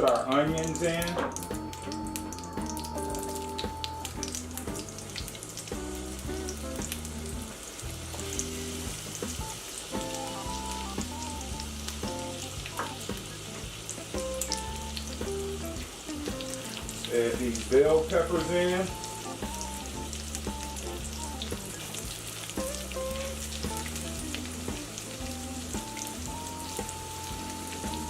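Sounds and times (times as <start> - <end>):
background music low notes: 0.0 - 28.0
onions sizzling in skillet: 0.0 - 28.0.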